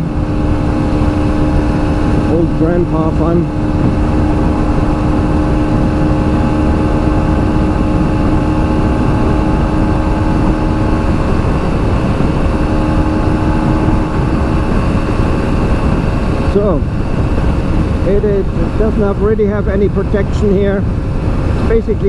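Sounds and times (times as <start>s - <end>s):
motorcycle engine at full throttle: 0.0s - 22.0s
wind rush on microphone: 0.0s - 22.0s.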